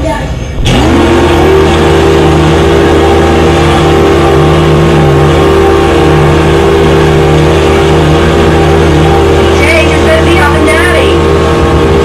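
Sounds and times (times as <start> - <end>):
vacuum cleaner running: 0.6 - 12.0.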